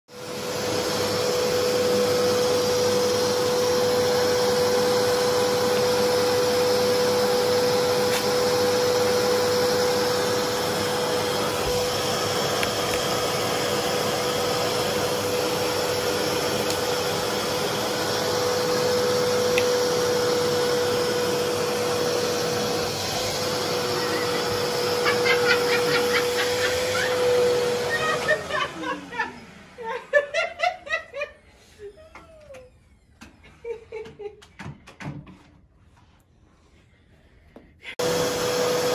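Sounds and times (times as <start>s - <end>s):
vacuum cleaner running: 0.1s - 34.2s, 37.6s - 38.9s.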